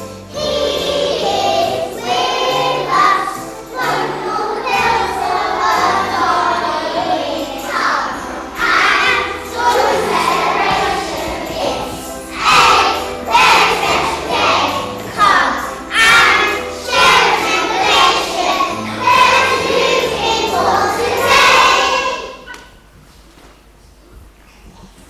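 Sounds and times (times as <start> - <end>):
children's choir singing: 0.0 - 22.5
low instrumental notes: 0.0 - 22.5.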